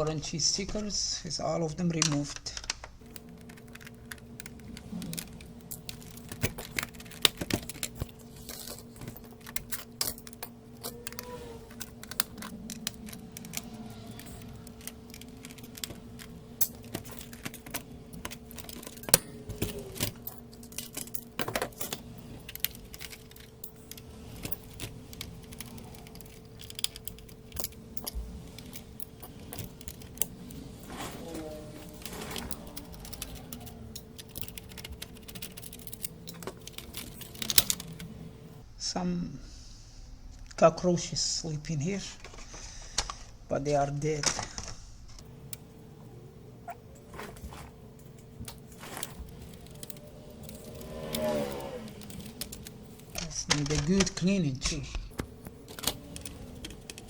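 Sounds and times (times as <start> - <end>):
faint steady hum: 0.0 - 57.0
clicks and metallic clinks of handling: 1.9 - 38.1, 47.0 - 57.0.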